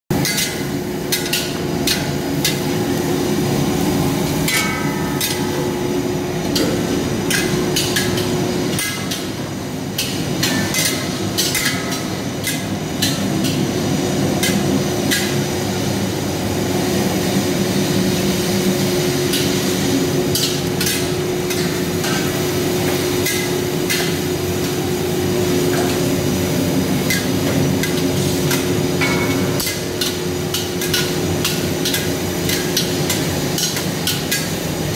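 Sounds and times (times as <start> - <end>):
steady kitchen hum: 0.1 - 34.9
onions frying: 0.2 - 34.9.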